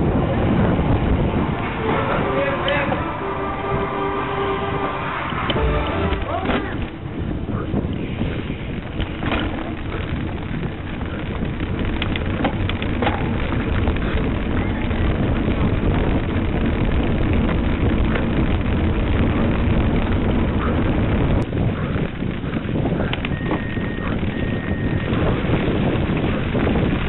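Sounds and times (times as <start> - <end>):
tyres rumbling over cobblestones: 0.0 - 27.0
wind on microphone: 0.0 - 27.0
bicycle rattling: 5.2 - 27.0.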